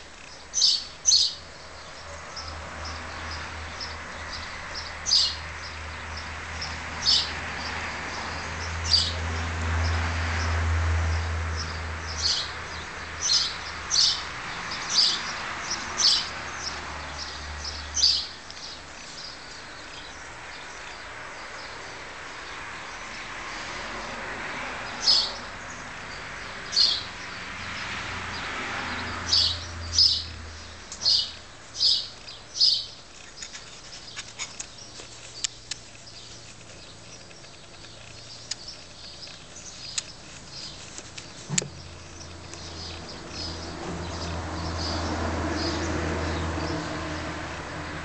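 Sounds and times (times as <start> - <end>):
bird chirping: 0.0 - 9.5, 11.5 - 23.2, 24.9 - 46.9.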